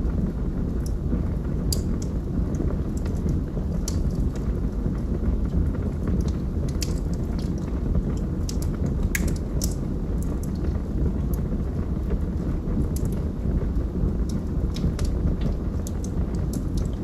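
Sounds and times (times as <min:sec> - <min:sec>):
log fire burning: 0:00.0 - 0:17.0
wood crackling and popping: 0:00.0 - 0:17.0.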